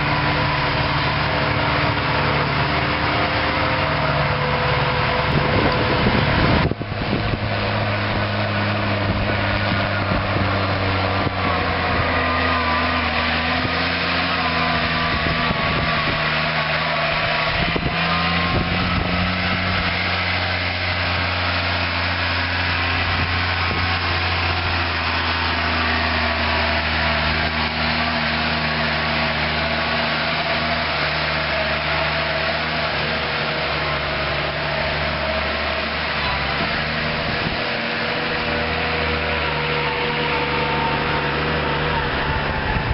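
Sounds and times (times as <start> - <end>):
diesel engines running under load: 0.0 - 42.9.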